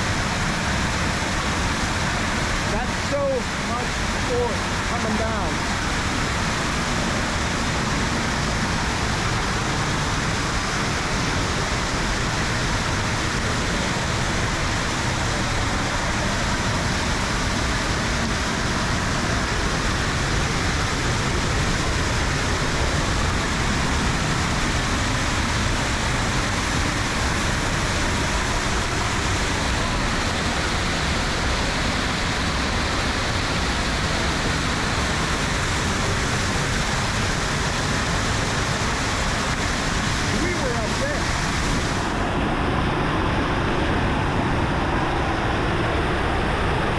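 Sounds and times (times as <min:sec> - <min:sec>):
waterfall rushing over rock: 0:00.0 - 0:46.9.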